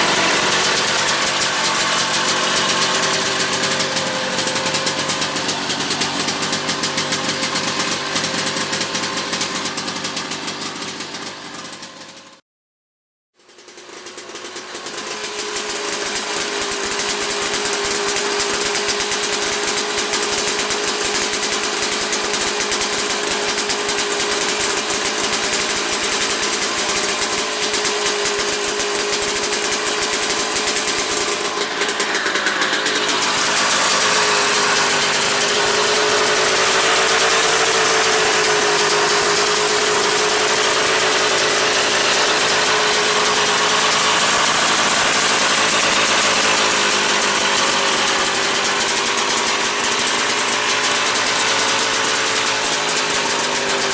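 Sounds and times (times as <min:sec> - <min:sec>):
two-stroke engine idling: 0:00.0 - 0:12.4, 0:13.4 - 0:53.9.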